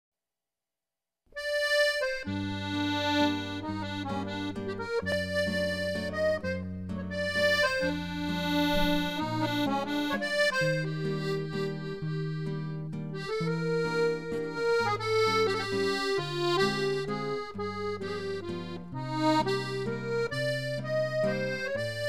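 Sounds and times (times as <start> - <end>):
accordion melody: 1.3 - 22.0.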